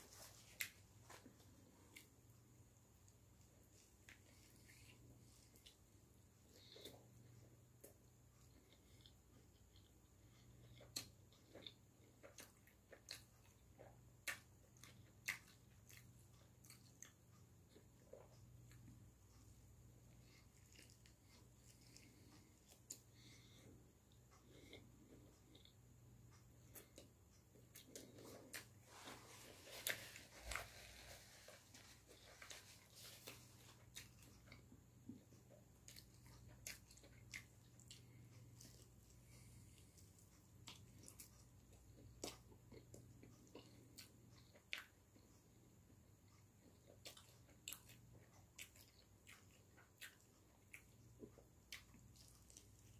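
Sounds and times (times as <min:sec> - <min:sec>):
faint low hum: 0:00.0 - 0:52.9
eating crackles and wet clicks: 0:03.0 - 0:28.8, 0:31.8 - 0:52.9
chewing food: 0:03.0 - 0:52.9.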